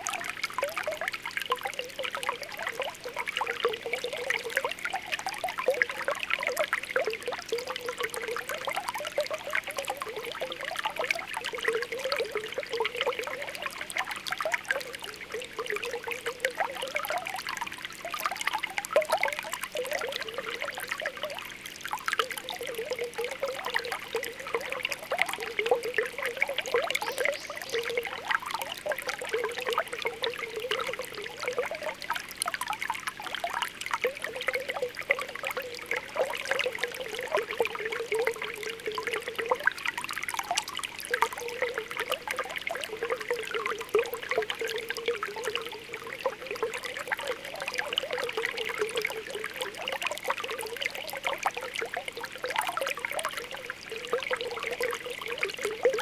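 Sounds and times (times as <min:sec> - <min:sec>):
spring water bubbling: 0:00.0 - 0:56.0.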